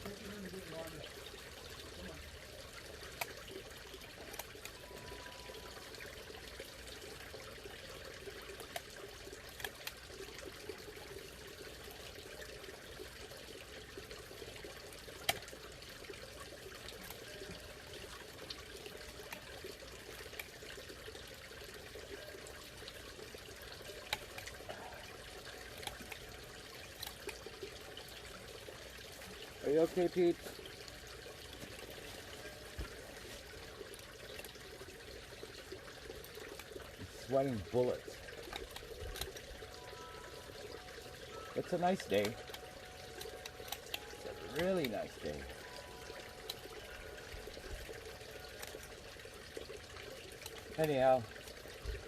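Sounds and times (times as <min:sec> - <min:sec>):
pond water trickling and bubbling: 0:00.0 - 0:52.0.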